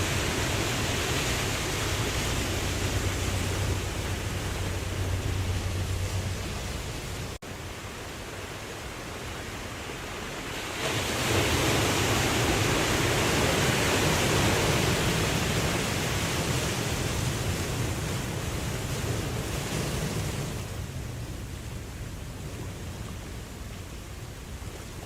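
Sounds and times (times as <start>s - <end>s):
ocean wave breaking: 0.0s - 21.3s.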